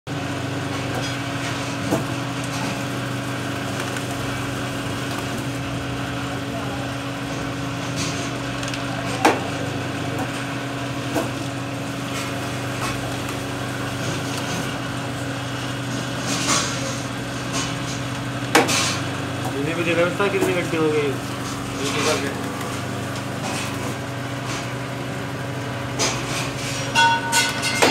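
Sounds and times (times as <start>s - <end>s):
machine mechanical hum: 0.1s - 27.9s.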